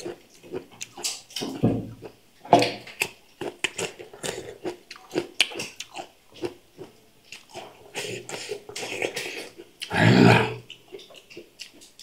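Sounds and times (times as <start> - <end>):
biting and chewing cucumber: 0.0 - 9.9.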